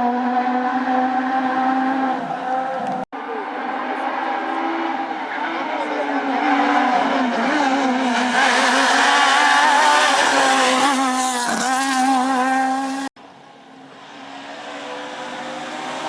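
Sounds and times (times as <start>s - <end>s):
rally car engine at high revs: 0.0s - 16.0s
quieter engine running: 0.9s - 16.0s.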